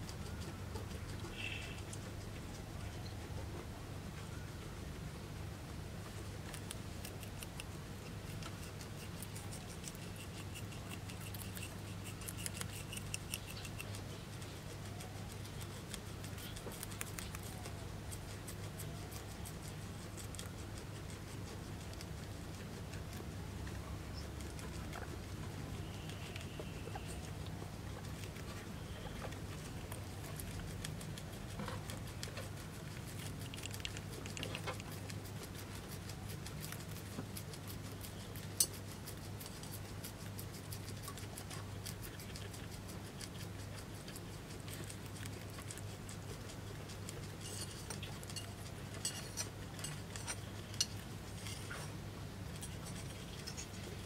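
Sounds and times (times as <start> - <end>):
guinea pig chewing leaves: 0.0 - 54.0.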